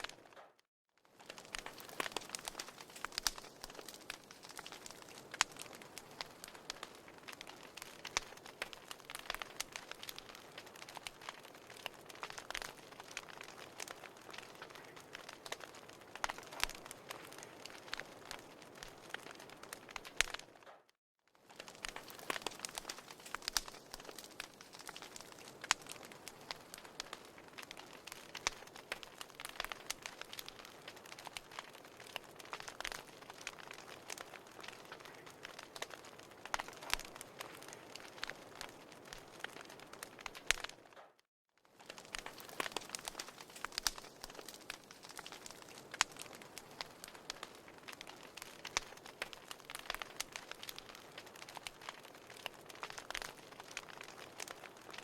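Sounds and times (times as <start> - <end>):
fire crackling and popping: 0.0 - 55.0
fire soft hiss: 1.2 - 20.4, 21.5 - 40.7, 41.8 - 55.0.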